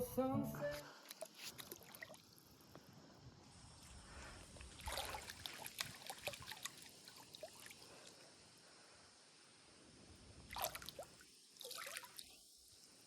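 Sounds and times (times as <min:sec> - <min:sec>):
faint water trickling: 0:00.7 - 0:13.0.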